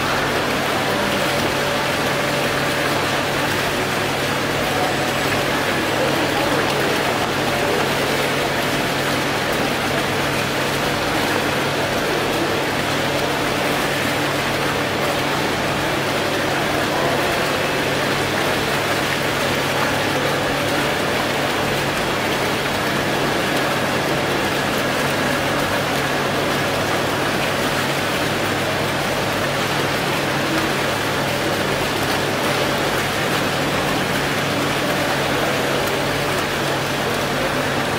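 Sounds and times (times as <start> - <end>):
fountain splashing into pool: 0.0 - 37.9.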